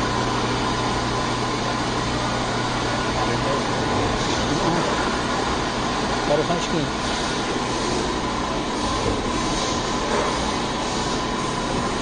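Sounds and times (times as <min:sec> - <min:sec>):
pouring machine hum and hiss: 0:00.0 - 0:12.0
thin constant machine whine: 0:00.0 - 0:12.0.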